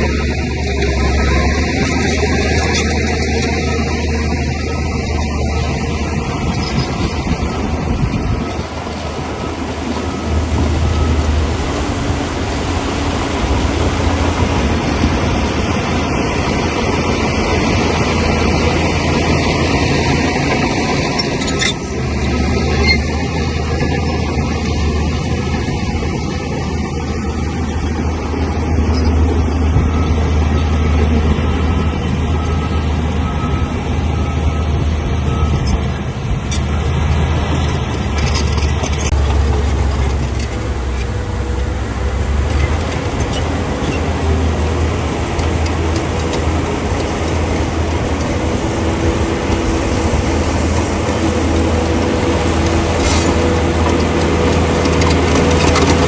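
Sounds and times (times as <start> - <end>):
rough scraping grinding noise: 0.0 - 34.3, 35.0 - 56.0
bulldozer diesel engine under load: 0.0 - 56.0.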